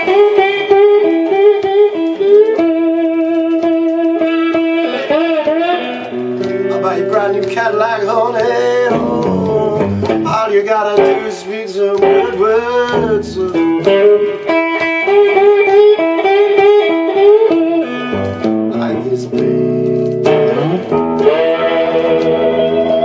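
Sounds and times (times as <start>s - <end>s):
blues electric guitar: 0.0s - 23.0s.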